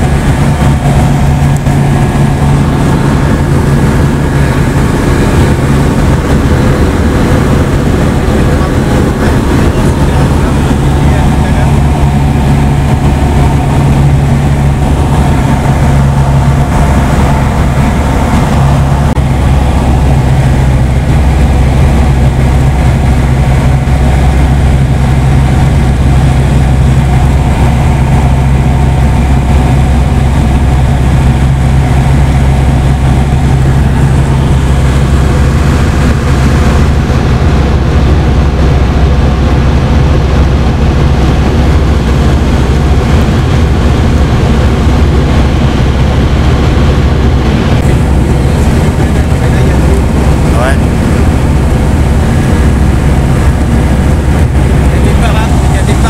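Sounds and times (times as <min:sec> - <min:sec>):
light aircraft engine and propeller: 0:00.0 - 0:56.0.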